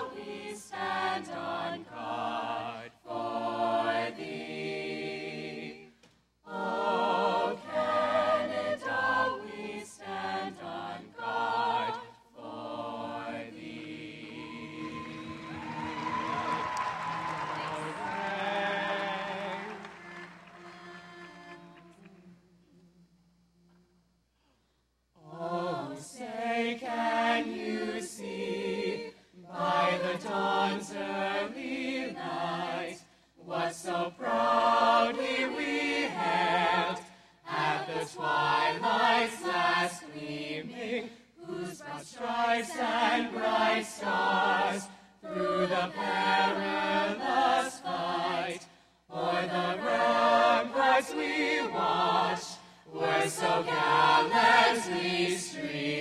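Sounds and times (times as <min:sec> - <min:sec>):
choir singing an anthem: 0:00.0 - 0:23.0, 0:25.2 - 0:56.0.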